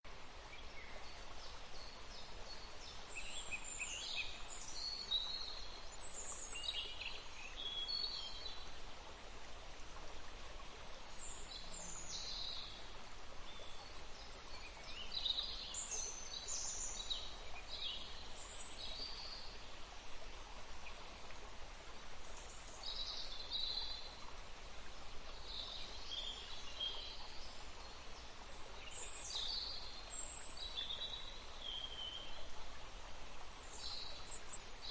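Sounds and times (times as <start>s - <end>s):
outdoor ambience hiss: 0.1s - 34.9s.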